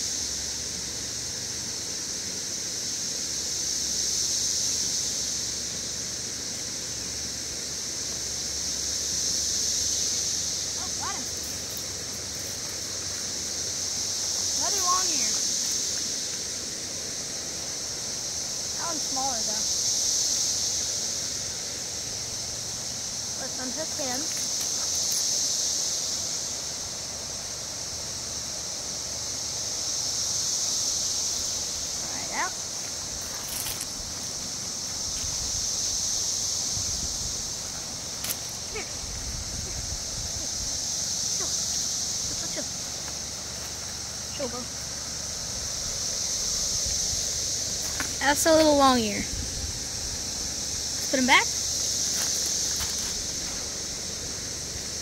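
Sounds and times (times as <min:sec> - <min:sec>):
high-pitched insect drone: 0:00.0 - 0:55.0
high-pitched outdoor hiss: 0:00.0 - 0:55.0.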